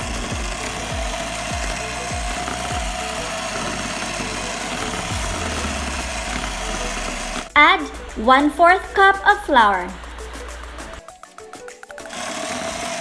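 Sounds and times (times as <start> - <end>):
electric hand mixer whirring: 0.0 - 13.0.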